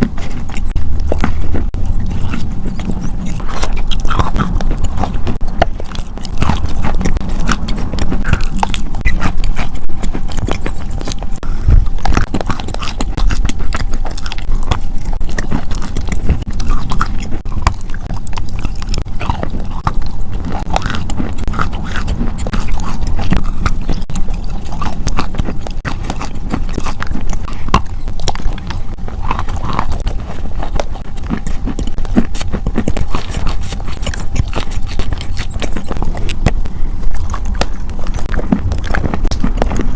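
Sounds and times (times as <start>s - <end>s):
chewing crunchy food: 0.0s - 39.9s
mouth clicks: 0.0s - 39.9s.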